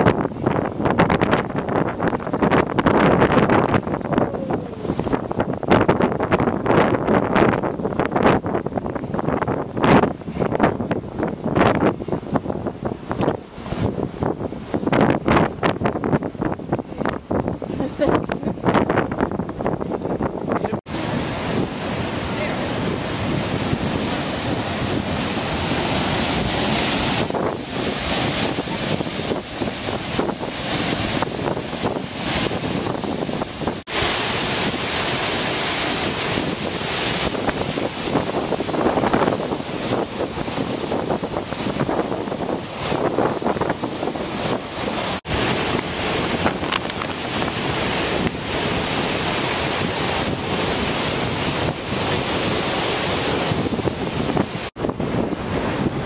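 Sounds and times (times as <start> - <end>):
waterfall rushing: 0.0 - 56.0
wind buffeting microphone: 0.0 - 56.0.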